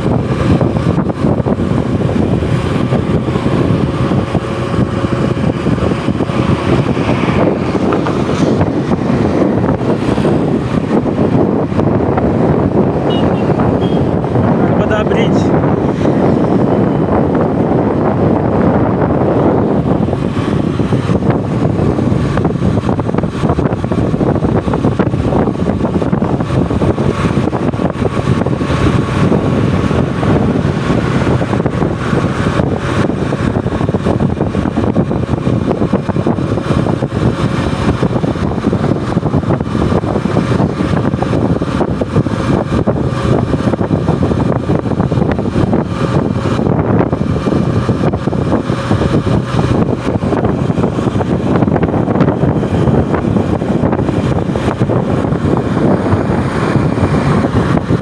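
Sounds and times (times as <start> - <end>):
motorcycle engine cruising: 0.0 - 58.0
wind and road rush: 0.0 - 58.0.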